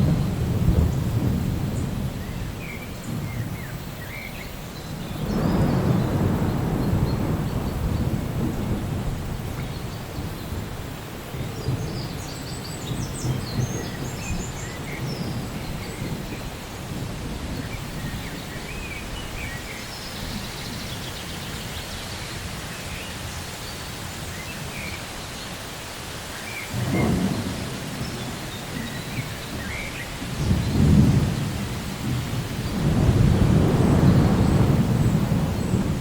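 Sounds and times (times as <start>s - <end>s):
thunder rumbling: 0.0s - 4.0s, 5.1s - 20.8s, 26.7s - 36.0s
steady rain: 0.0s - 36.0s.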